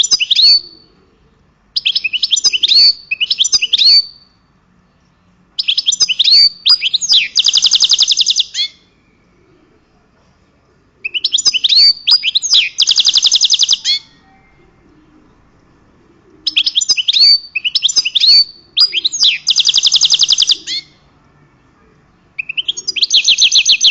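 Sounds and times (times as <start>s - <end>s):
songbird singing with trills: 0.0s - 21.2s, 22.0s - 23.9s.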